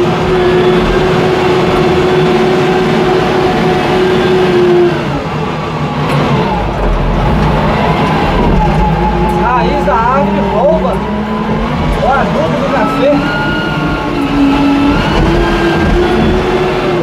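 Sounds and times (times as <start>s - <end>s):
diesel engine under load: 0.0s - 17.0s
steady whine: 0.0s - 17.0s.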